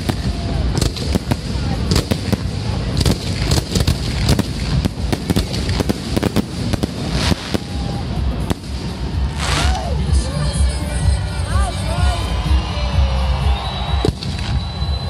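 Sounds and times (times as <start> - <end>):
fireworks bangs and crackles: 0.0 - 10.4, 13.3 - 15.0.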